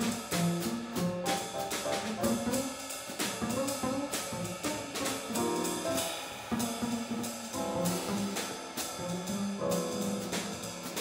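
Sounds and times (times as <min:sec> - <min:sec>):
cymbal strokes: 0:00.0 - 0:11.0
jazz combo playing: 0:00.0 - 0:11.0.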